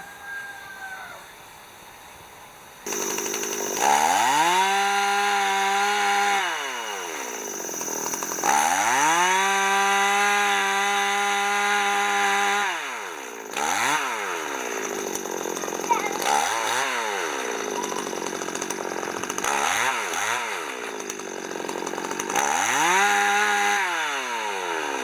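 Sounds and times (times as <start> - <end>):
chainsaw revving: 2.8 - 25.0.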